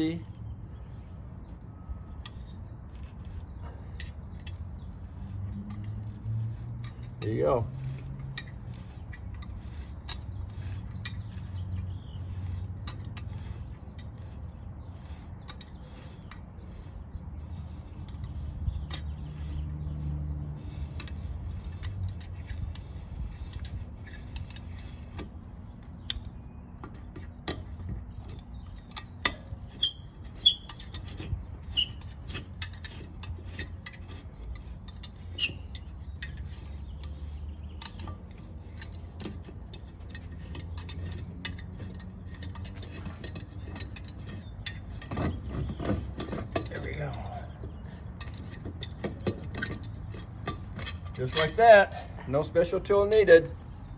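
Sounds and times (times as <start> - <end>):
small metal clicks: 2.2 - 52.0.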